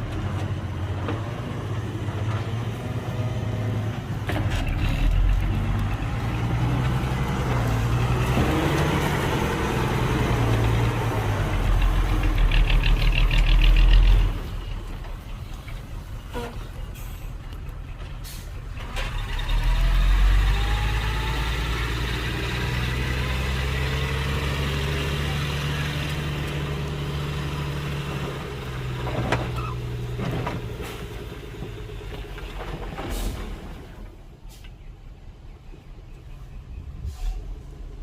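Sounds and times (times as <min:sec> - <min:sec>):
heavy diesel engine working: 0:00.0 - 0:34.7.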